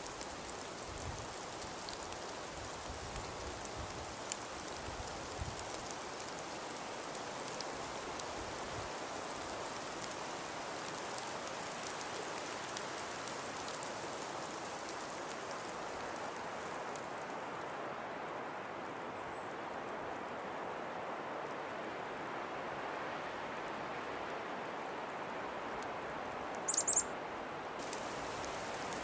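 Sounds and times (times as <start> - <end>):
snowstorm hiss: 0.0 - 29.0.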